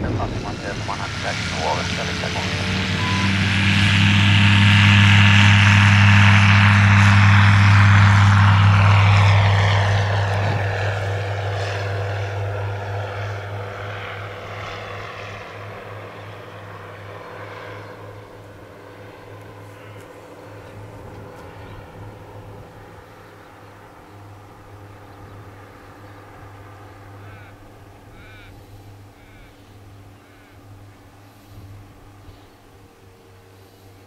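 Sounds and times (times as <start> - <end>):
light aircraft engine and propeller: 0.0 - 34.0.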